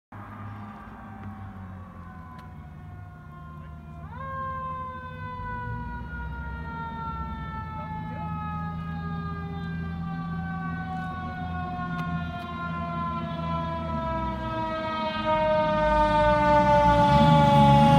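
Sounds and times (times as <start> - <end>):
truck engine rumble: 0.1 - 17.9.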